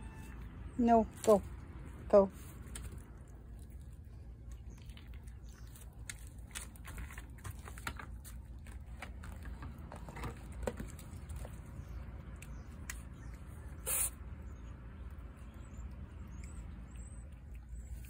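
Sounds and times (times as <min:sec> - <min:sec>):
cat chewing and licking: 0:01.5 - 0:18.0.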